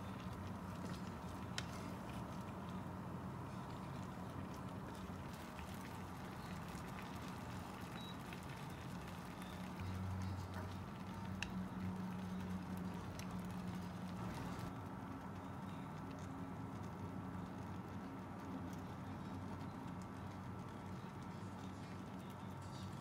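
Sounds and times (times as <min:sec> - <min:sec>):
food simmering with bubbling hiss: 0:00.0 - 0:23.0.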